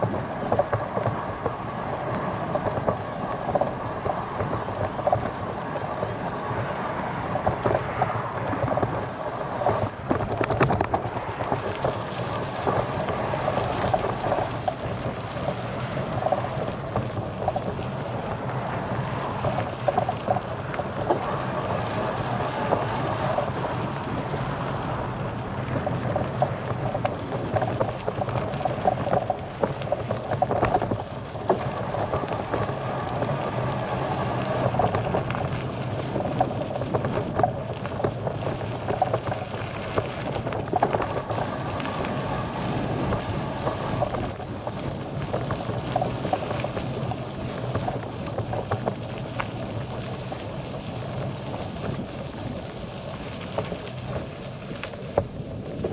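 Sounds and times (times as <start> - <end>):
bicycle rattles and knocks: 0.0 - 55.9
bicycle tyres rolling: 0.0 - 55.9
wind noise: 0.0 - 55.9.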